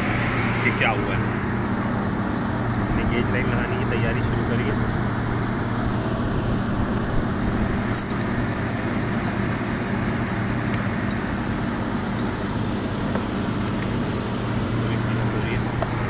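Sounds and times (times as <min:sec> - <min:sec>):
air conditioner unit humming: 0:00.0 - 0:16.0.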